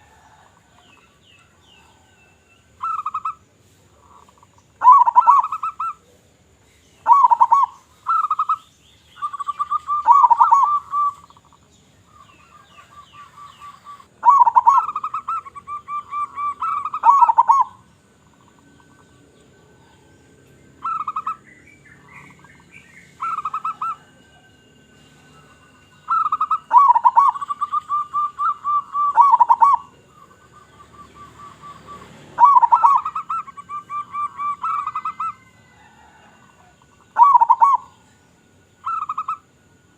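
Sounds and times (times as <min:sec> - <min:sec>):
dove cooing trills: 0:00.0 - 0:06.2, 0:07.0 - 0:39.9.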